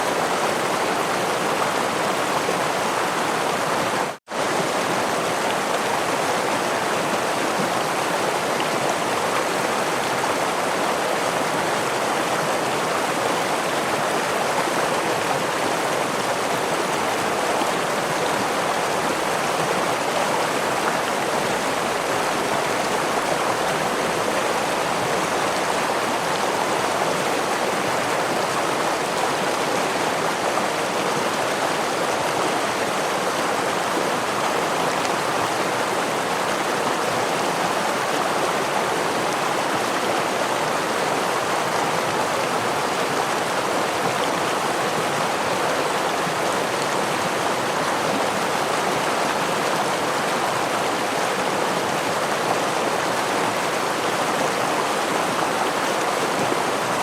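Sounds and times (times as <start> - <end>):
stream rushing over waterfall: 0.0 - 57.0.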